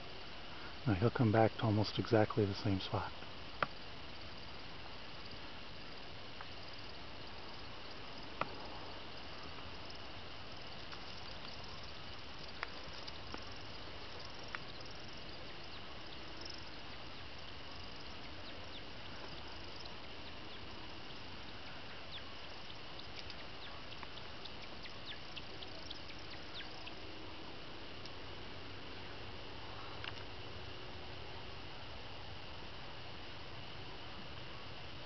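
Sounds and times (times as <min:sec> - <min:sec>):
frogs calling: 0:01.0 - 0:29.2.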